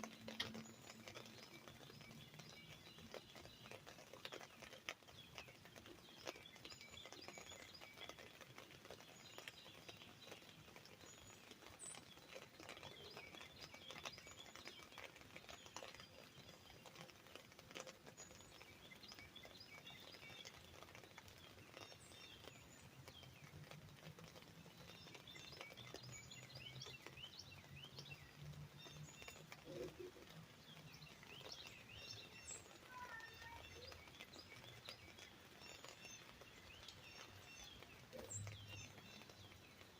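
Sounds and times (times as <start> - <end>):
birds chirping: 0.0 - 39.9
light rain on an umbrella: 0.0 - 39.9.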